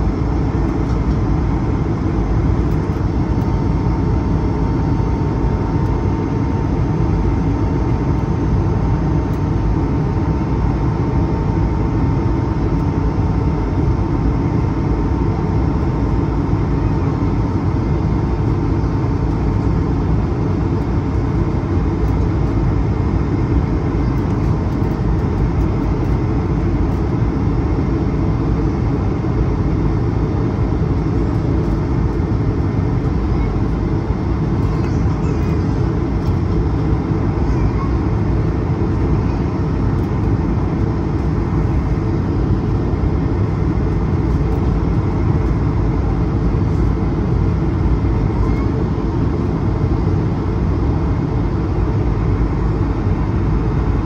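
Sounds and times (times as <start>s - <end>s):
airplane cabin engine noise: 0.0s - 54.0s
faint steady whine: 0.0s - 54.0s.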